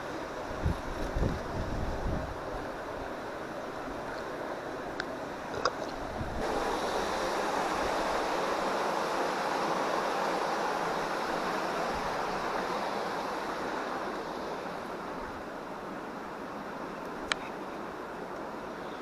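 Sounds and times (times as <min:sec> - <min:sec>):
water rushing through a channel: 0:00.0 - 0:18.8.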